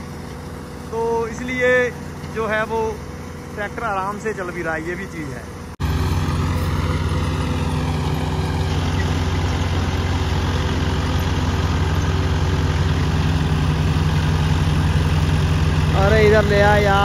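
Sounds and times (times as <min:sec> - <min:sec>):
straw reaper noise: 0:00.0 - 0:17.0
tractor diesel engine running: 0:00.0 - 0:17.0.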